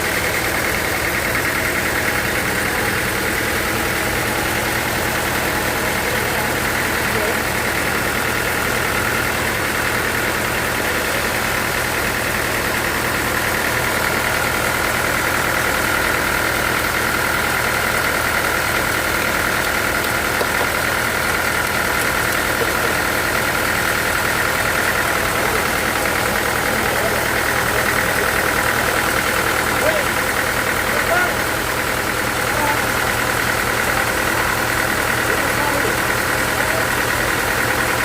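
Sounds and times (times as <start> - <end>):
high machine whine: 0.0 - 38.0
sawmill engine running: 0.0 - 38.0.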